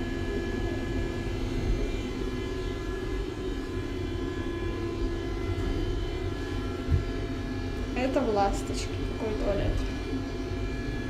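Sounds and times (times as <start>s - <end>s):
electric train humming and rumbling: 0.0s - 11.0s
electrical whine: 0.0s - 11.0s.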